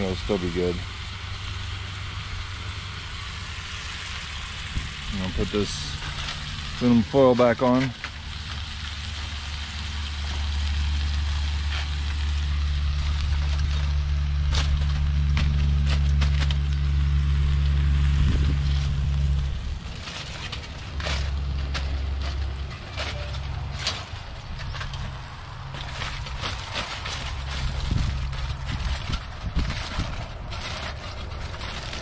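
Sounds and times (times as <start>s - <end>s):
aluminium foil crinkling: 0.0s - 32.0s
steady low rumble: 0.0s - 32.0s.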